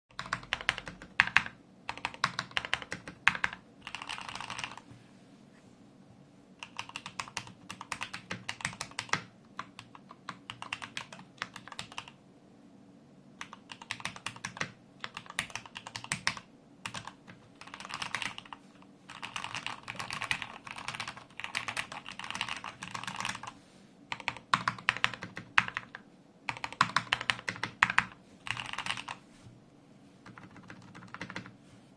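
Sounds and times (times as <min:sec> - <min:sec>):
mechanical keyboard typing: 0:00.1 - 0:04.8, 0:06.6 - 0:12.2, 0:13.4 - 0:29.2, 0:30.2 - 0:31.5.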